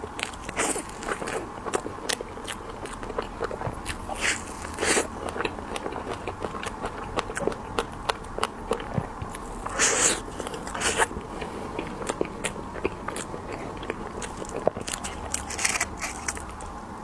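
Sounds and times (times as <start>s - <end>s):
crunching candy glaze: 0.0s - 17.0s.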